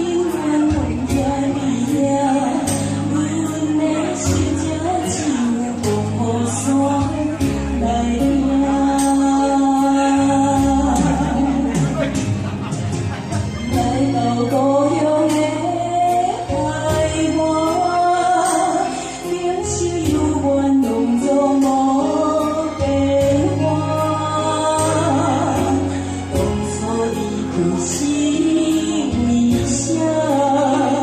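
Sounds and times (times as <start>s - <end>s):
woman singing: 0.0s - 12.0s, 13.7s - 31.0s.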